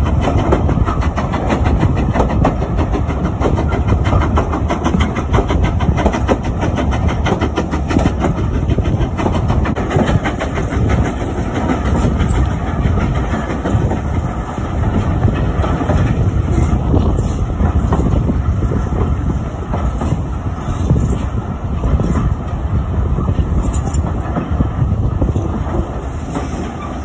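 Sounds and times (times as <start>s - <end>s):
train running rumble: 0.0s - 27.0s
wheels clicking over rail joints: 0.0s - 27.0s.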